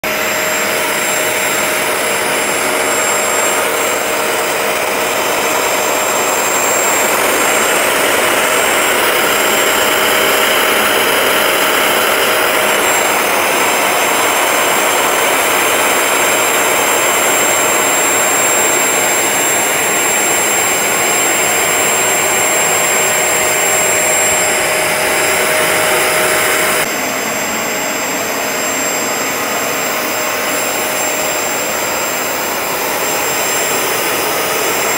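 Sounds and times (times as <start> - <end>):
carpet cleaner suction whine: 0.0 - 34.9.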